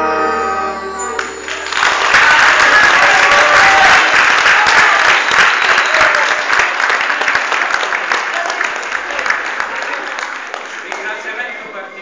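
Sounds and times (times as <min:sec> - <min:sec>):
audience applause: 0:01.2 - 0:11.6.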